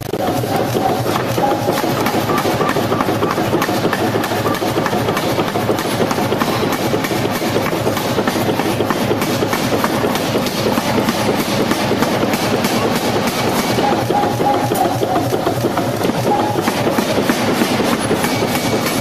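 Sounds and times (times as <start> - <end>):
dense steady din: 0.0 - 19.0
forging hammer striking steel: 0.0 - 19.0.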